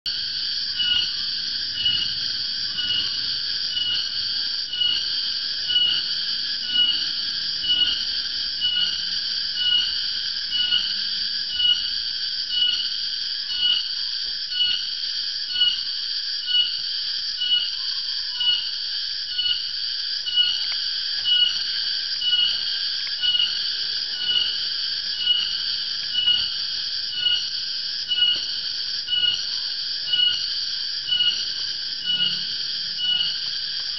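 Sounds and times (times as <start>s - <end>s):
cicada calling shrill: 0.1s - 33.9s.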